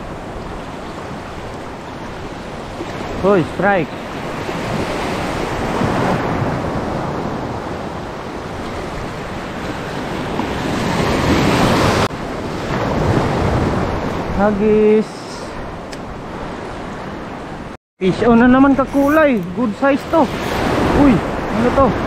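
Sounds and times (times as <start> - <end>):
surf washing against shore: 0.0 - 22.0
wind buffeting microphone: 0.0 - 22.0.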